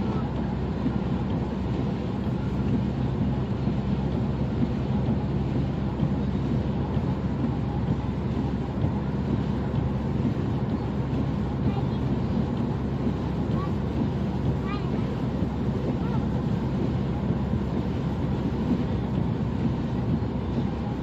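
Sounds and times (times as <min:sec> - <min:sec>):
car road noise and engine drone: 0:00.0 - 0:21.0.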